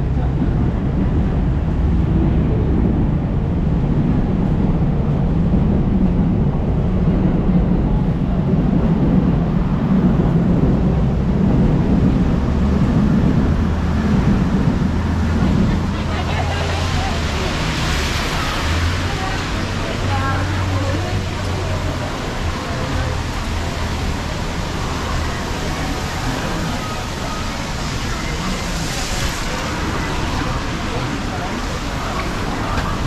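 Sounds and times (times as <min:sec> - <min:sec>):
city street traffic rumble: 0:00.0 - 0:33.0.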